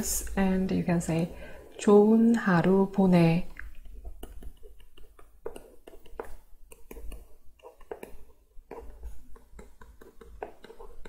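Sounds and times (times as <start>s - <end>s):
stylus tapping and scratching on tablet: 0.0s - 11.0s.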